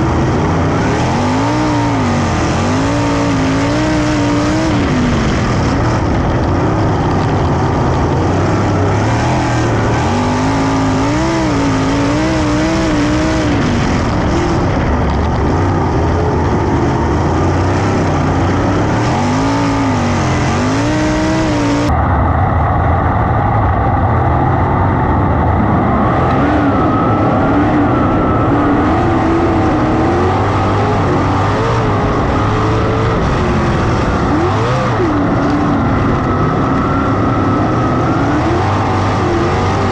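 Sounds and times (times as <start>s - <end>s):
race car engines at full throttle: 0.0s - 39.9s.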